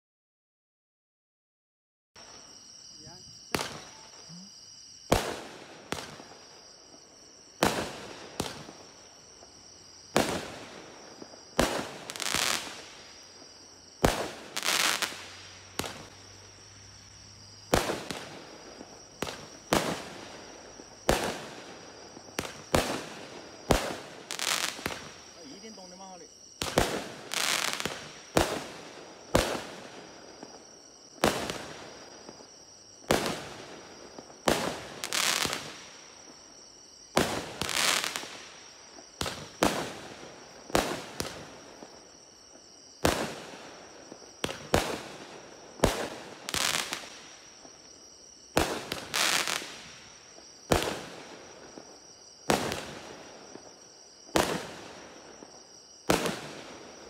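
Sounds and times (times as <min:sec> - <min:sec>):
fireworks crackle: 0:02.2 - 0:16.5, 0:17.7 - 0:57.0
fireworks bangs: 0:03.0 - 0:16.4, 0:17.6 - 0:47.8, 0:48.5 - 0:57.0.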